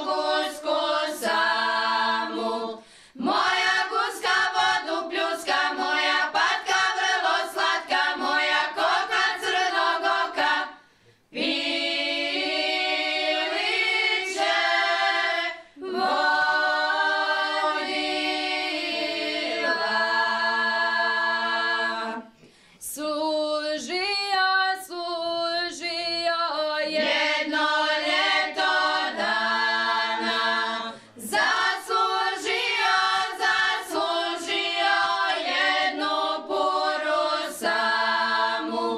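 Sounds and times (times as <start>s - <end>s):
women singing a cappella: 0.0s - 38.9s.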